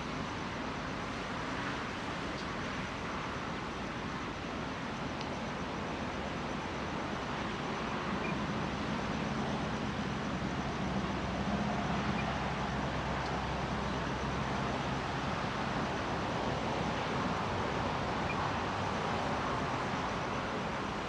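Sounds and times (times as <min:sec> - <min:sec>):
diesel locomotive rumble and hiss: 0:00.0 - 0:21.0.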